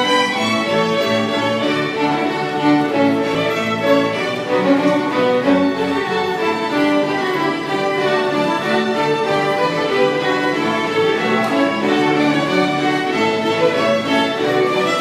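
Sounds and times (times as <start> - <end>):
lower bowed strings: 0.0 - 15.0
violin playing: 0.0 - 15.0.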